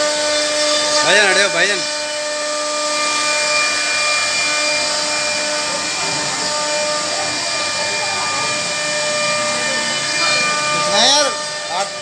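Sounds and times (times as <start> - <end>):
bit carving into wood: 0.0 - 12.0
router spindle high whine: 0.0 - 12.0.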